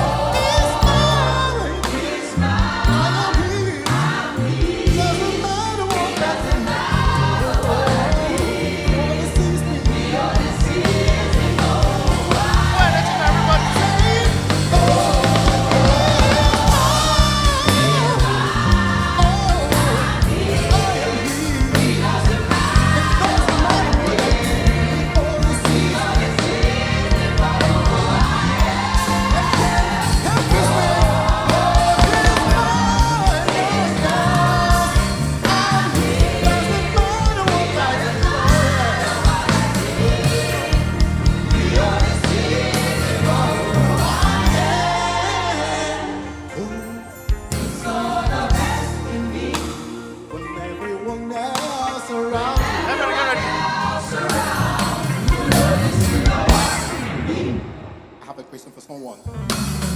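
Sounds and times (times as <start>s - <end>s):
drums: 0.0s - 50.3s, 51.5s - 58.3s, 59.2s - 59.9s
bass: 0.0s - 57.8s, 59.2s - 59.9s
gospel choir singing: 0.0s - 59.4s.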